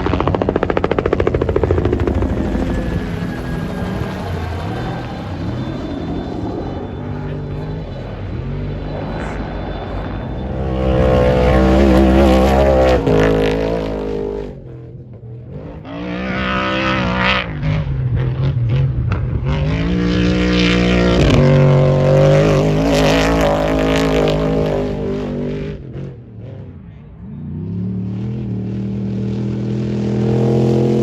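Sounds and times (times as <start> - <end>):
race engines revving: 0.0 - 31.0.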